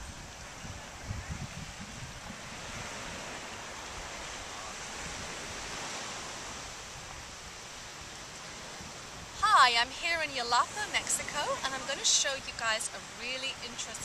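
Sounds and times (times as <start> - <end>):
waves washing onto beach: 0.0 - 14.0
wind rumbling on microphone: 0.0 - 14.0.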